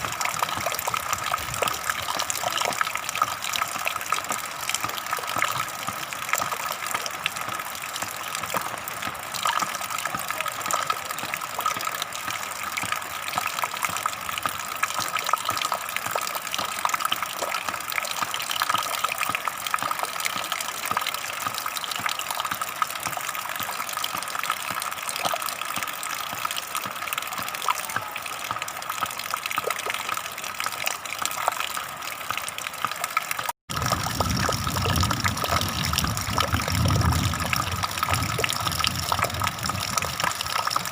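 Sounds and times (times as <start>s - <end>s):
water flowing and gushing: 0.0s - 40.9s.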